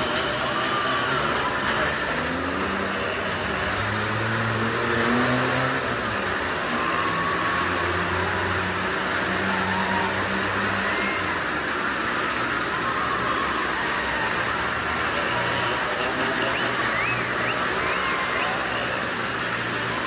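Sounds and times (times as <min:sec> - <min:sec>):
car and motorcycle engines circling: 0:00.0 - 0:20.0.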